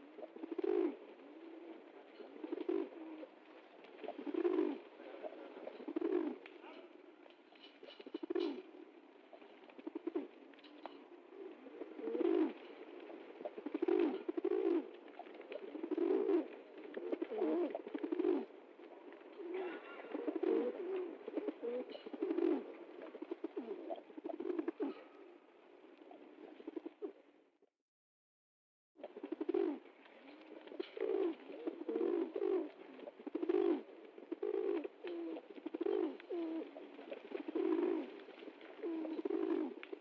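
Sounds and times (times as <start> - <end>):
pigeons cooing: 0.0 - 27.2, 29.0 - 40.0.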